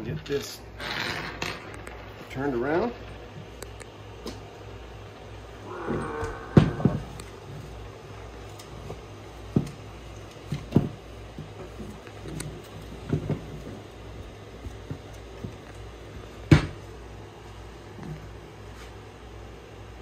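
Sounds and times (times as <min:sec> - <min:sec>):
steady low hum: 0:01.5 - 0:20.0.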